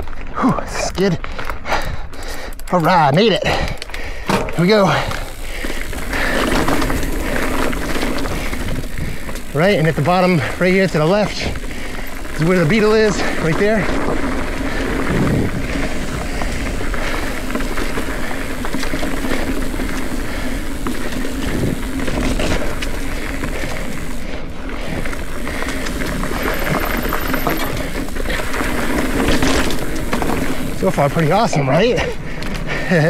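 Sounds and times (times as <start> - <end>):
wind and tyre noise: 0.0 - 33.0
bike knocks and rattles: 2.8 - 24.2, 25.0 - 31.3.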